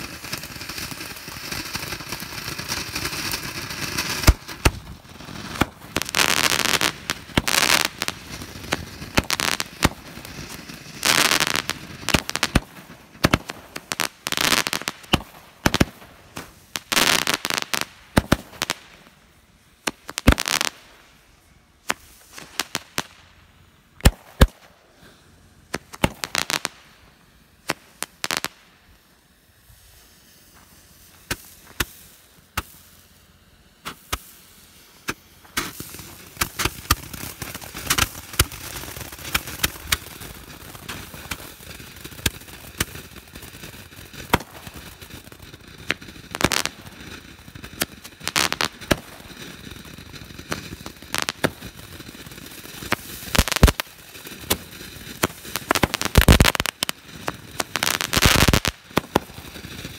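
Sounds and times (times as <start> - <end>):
fireworks bangs and pops: 0.0 - 21.2, 21.8 - 28.9, 29.6 - 33.0, 33.8 - 59.9
fireworks hissing and crackling: 0.0 - 59.9.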